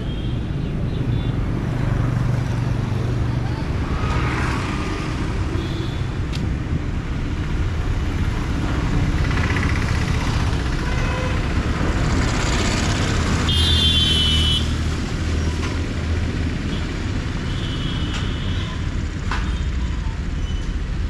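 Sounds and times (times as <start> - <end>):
road traffic rumbling: 0.0 - 21.0.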